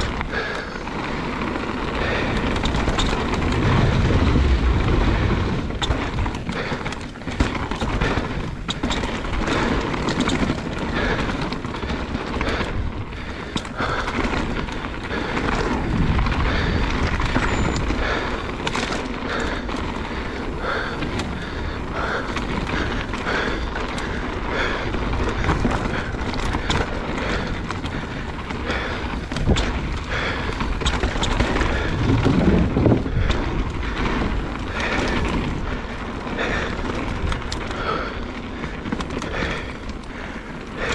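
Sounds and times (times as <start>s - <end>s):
bike knocks and rattles: 0.0s - 40.9s
bike tyres rolling over dirt: 0.0s - 40.9s.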